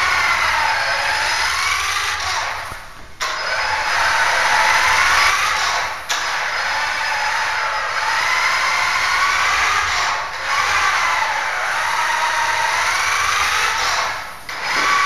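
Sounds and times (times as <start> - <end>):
electric rc car motor whine: 0.0 - 2.6, 3.2 - 15.0.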